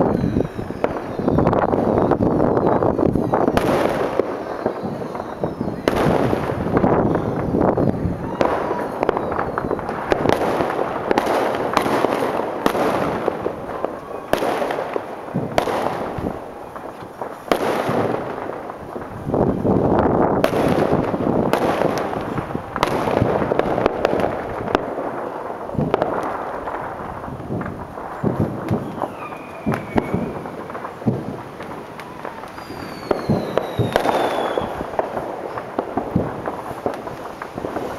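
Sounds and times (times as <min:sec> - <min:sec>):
fireworks bursting: 0:00.0 - 0:37.9.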